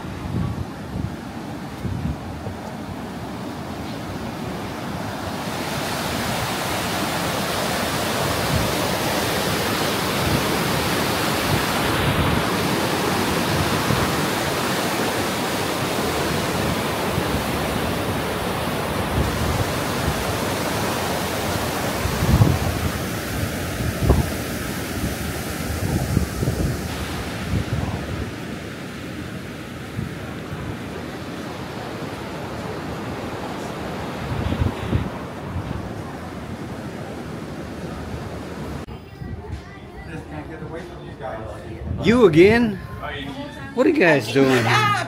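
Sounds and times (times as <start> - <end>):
wind on microphone: 0.0 - 31.2, 32.4 - 36.7, 41.6 - 43.7
ship wake rushing water: 0.0 - 38.9, 41.8 - 45.0.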